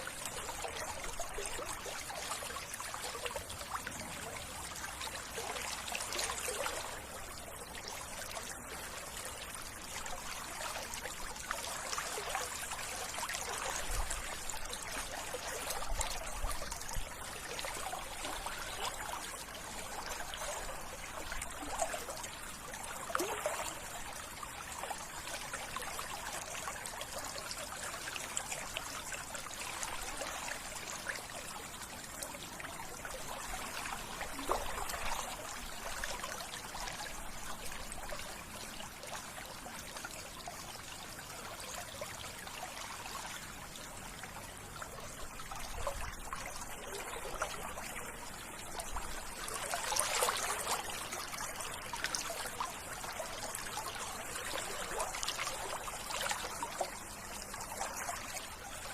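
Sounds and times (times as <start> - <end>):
stream trickling: 0.0 - 58.9.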